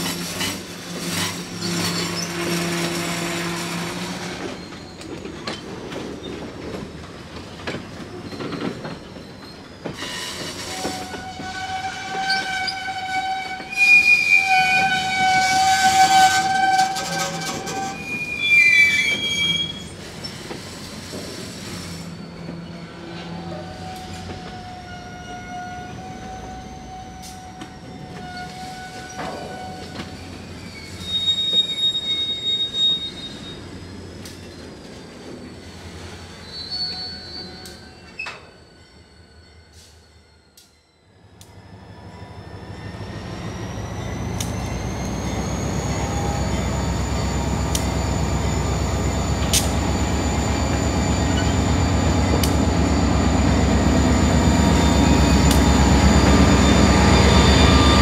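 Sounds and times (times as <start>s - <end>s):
freight train wheels rumbling: 0.0s - 40.6s, 41.2s - 58.0s
wheels squealing on rails: 0.0s - 58.0s.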